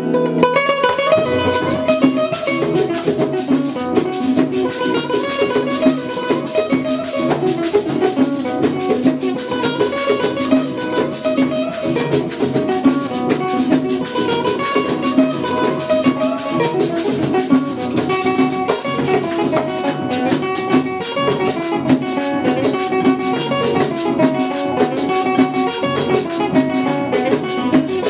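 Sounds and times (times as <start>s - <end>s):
plucked string melody: 0.0s - 28.0s
steady drum beat: 1.1s - 28.0s.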